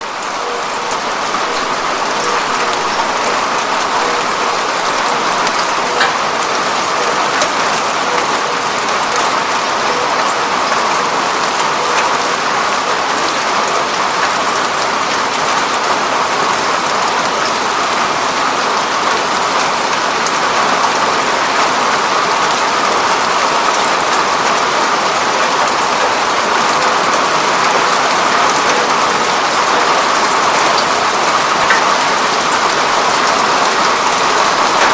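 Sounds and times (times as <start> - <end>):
rain on a window pane: 0.0 - 34.9.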